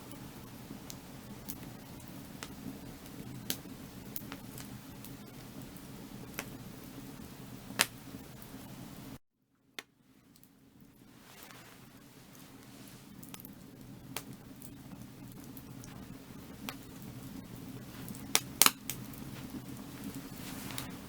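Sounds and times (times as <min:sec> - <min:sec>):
firewood crackling and popping: 0:00.0 - 0:09.2, 0:09.8 - 0:21.0
low hiss of fire: 0:00.0 - 0:09.2, 0:10.9 - 0:21.0.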